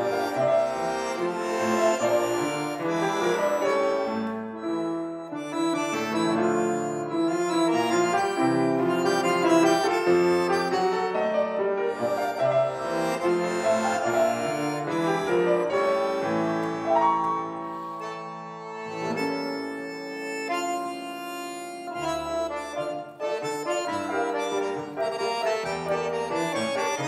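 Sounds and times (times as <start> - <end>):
button accordion: 0.0 - 27.0
grand piano: 0.0 - 27.0.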